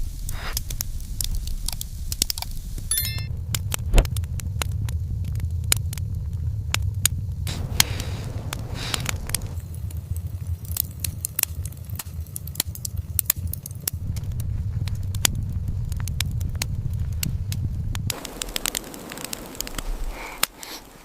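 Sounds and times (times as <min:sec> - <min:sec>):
low steady rumble: 0:00.0 - 0:20.5
wood fire crackling and popping: 0:00.0 - 0:21.0.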